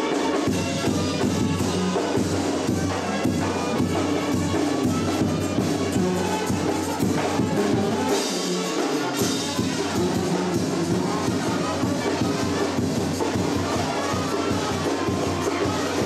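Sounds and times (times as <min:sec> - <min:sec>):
brass band playing: 0:00.0 - 0:16.0
steady drum beat: 0:00.0 - 0:16.0.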